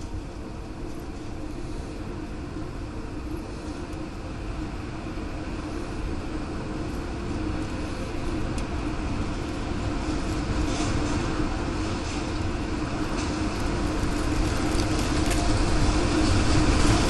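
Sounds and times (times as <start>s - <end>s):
storm wind roaring: 0.0s - 17.0s.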